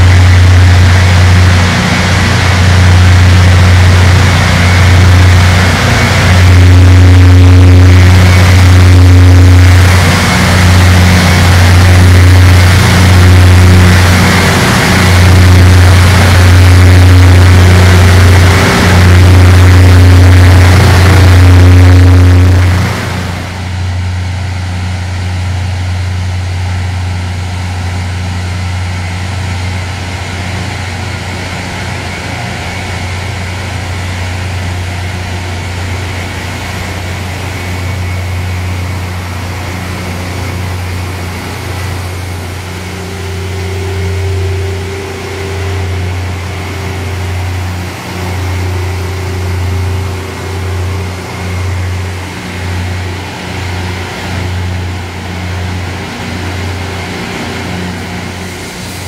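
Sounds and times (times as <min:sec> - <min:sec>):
deep diesel drone: 0:00.0 - 0:59.0
higher hum: 0:00.0 - 0:59.0.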